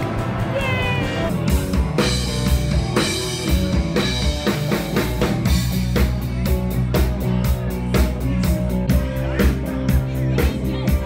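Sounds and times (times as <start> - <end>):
drum kit beat: 0.0 - 11.0
live rock band: 0.0 - 11.0.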